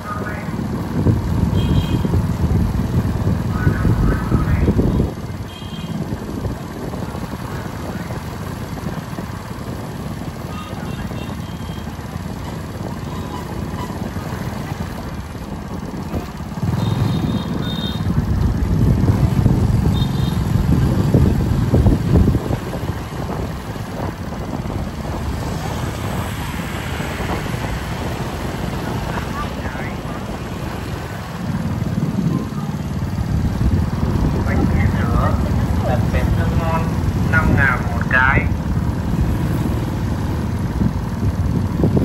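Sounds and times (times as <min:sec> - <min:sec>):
engine low rumble: 0:00.0 - 0:42.0.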